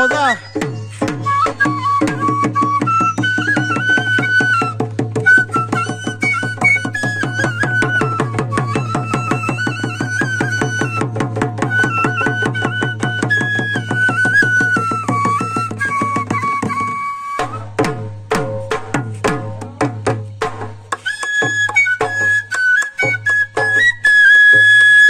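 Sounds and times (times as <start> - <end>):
bamboo flute melody: 0.0 - 25.0
dhol drum beats: 0.0 - 25.0.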